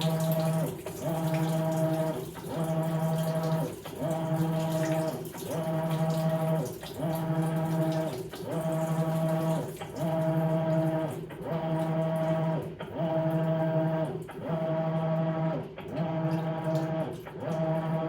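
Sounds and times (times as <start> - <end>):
washing machine motor humming: 0.0 - 18.0.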